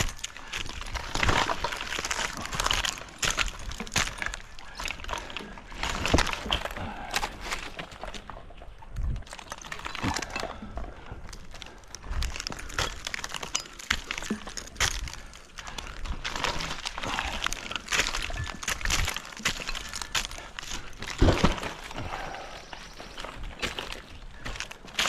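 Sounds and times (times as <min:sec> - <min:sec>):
bark and wood cracking: 0:00.0 - 0:25.0.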